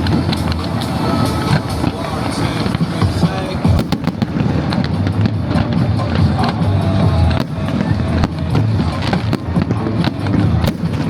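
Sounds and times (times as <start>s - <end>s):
fireworks popping and crackling: 0.0s - 11.0s
low booming rumble: 0.0s - 11.0s
music playing: 0.0s - 11.0s.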